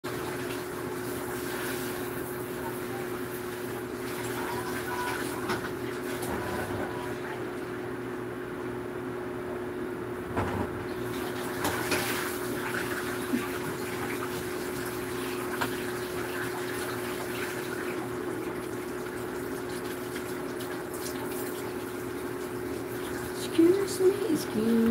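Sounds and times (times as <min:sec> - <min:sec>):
water running: 0:00.1 - 0:07.6, 0:10.9 - 0:24.9
constant hum: 0:00.1 - 0:24.9.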